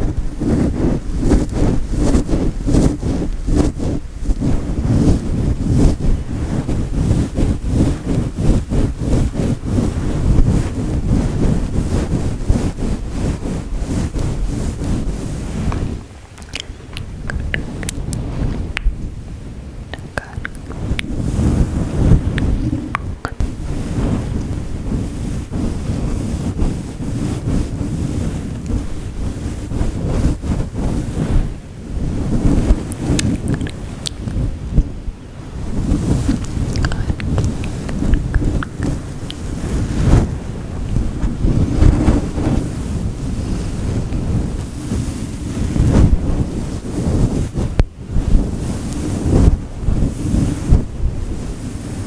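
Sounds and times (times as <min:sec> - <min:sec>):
microphone windscreen rubbing rustle: 0:00.0 - 0:52.0.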